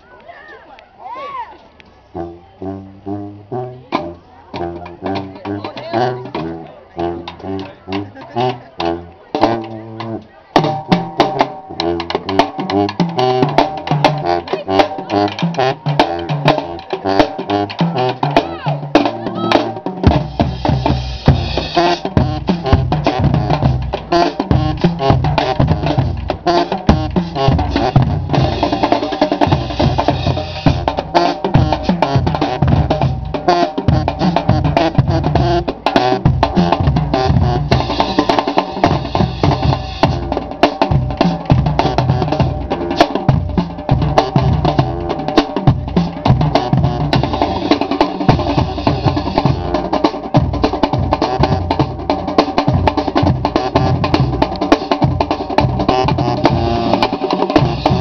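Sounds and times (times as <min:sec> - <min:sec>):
marching band playing: 0:02.0 - 0:58.0
snare and bass drums: 0:02.2 - 0:58.0.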